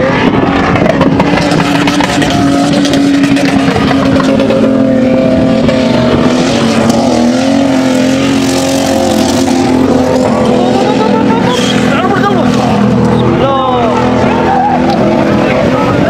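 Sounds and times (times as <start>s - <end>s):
engine at high revs: 0.0s - 16.0s.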